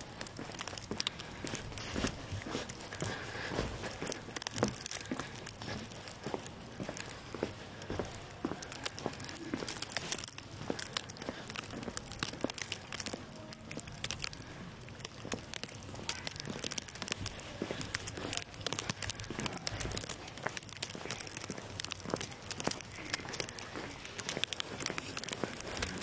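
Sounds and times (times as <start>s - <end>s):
crackling and ticking: 0.0s - 26.0s.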